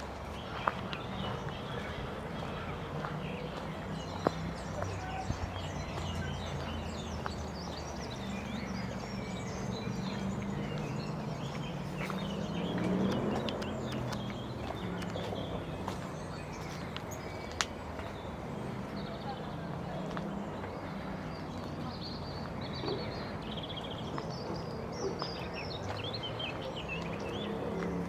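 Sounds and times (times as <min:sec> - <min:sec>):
birds chirping and twittering: 0:00.0 - 0:28.0.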